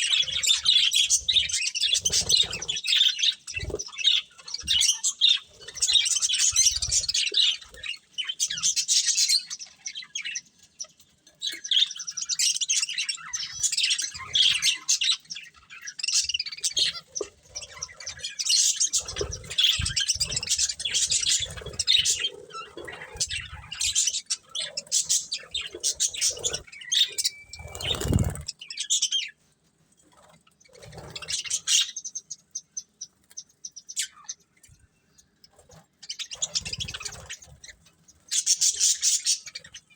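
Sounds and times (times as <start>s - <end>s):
budgerigars chirping: 0.0s - 29.4s, 30.7s - 34.6s, 36.0s - 39.9s.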